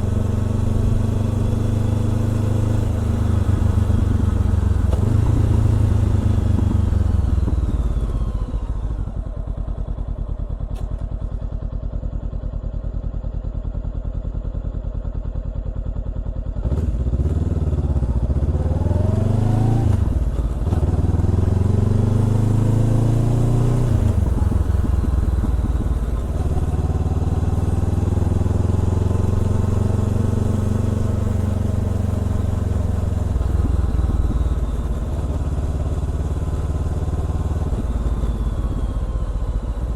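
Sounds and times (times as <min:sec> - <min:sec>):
motorcycle engine revving: 0:00.0 - 0:11.4, 0:16.4 - 0:39.9.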